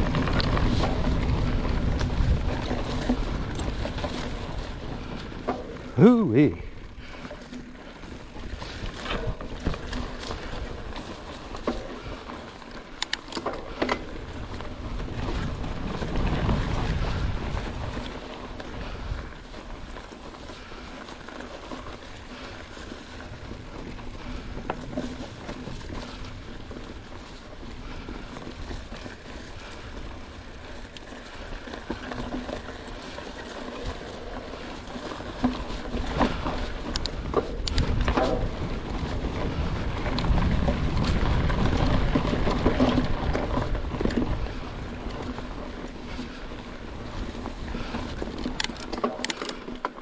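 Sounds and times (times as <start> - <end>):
wind buffeting microphone: 0.0 - 13.0, 13.7 - 21.0, 21.6 - 48.8
bike clicks and rattles: 0.0 - 50.0
tyres rolling over rough ground: 0.0 - 50.0.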